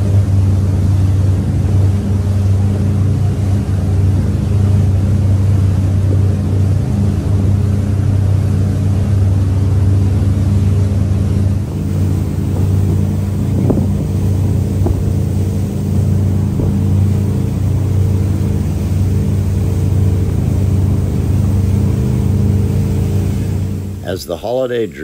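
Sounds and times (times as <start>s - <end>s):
wind on microphone: 0.0s - 24.0s
hiss of boat wake: 0.0s - 25.0s
powerboat engine droning: 0.0s - 25.0s.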